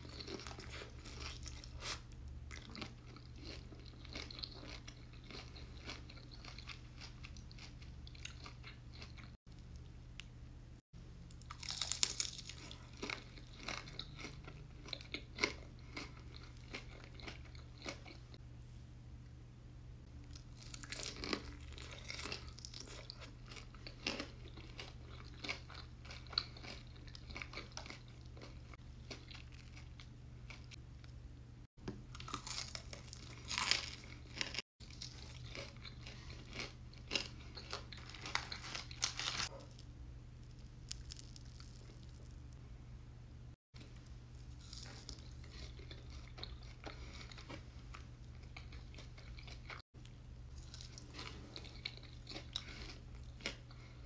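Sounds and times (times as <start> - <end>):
crunching fried chicken: 0.0 - 9.4, 11.3 - 18.4, 20.2 - 30.8, 32.1 - 42.6, 43.8 - 54.0
chewing crunches: 0.0 - 9.9, 11.3 - 18.4, 20.2 - 31.0, 32.1 - 42.5, 43.8 - 54.0
steady low hum: 0.0 - 54.0.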